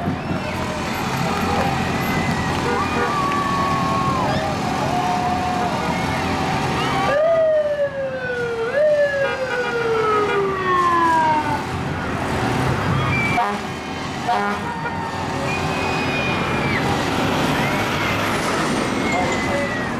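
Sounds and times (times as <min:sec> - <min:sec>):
fire engine siren sweeping down: 0:00.0 - 0:19.9.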